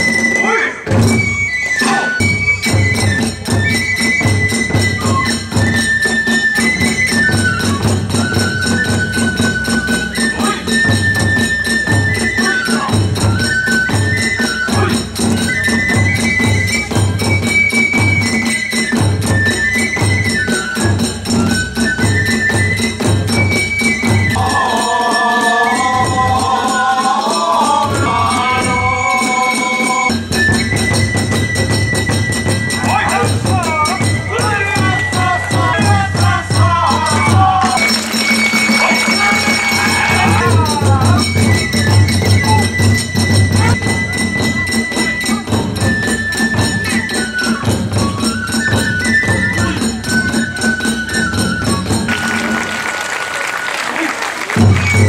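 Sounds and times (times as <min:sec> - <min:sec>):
steady drum beats: 0:00.0 - 0:47.0, 0:47.6 - 0:53.3, 0:54.0 - 0:55.0
bamboo flute melody: 0:00.0 - 0:55.0.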